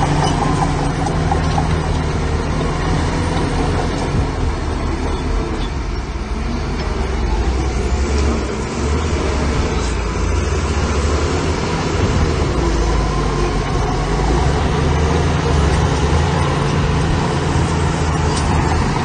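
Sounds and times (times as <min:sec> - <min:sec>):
diesel construction machinery running: 0:00.0 - 0:19.0.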